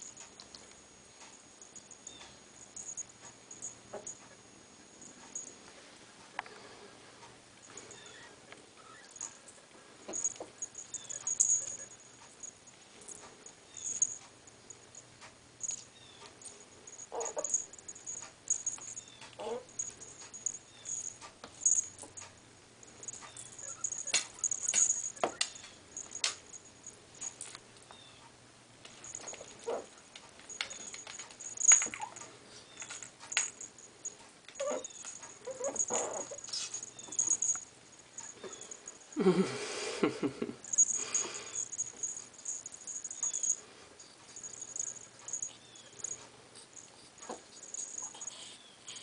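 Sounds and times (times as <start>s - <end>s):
collar bells jingling: 0.0s - 6.8s, 7.6s - 28.2s, 28.8s - 49.0s.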